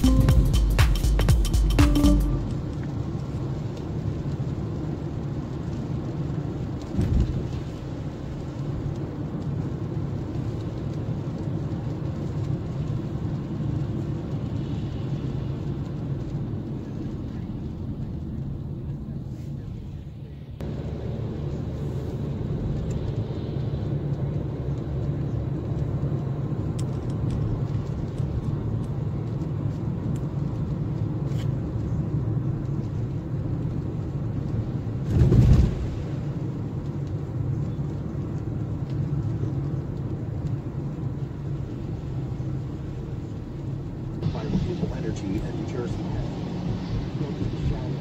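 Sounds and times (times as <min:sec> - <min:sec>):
car engine and tyres rumbling: 0:00.0 - 0:48.0.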